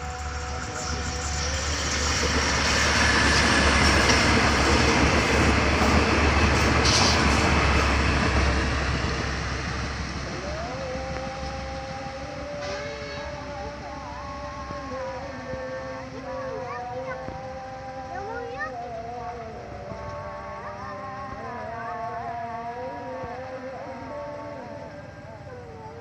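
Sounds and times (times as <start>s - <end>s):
train passing: 0.0s - 26.0s.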